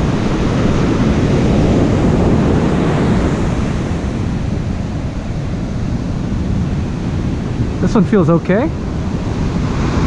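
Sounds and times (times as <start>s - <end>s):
ocean surf breaking on beach: 0.0s - 10.0s
wind rumbling on microphone: 0.0s - 10.0s.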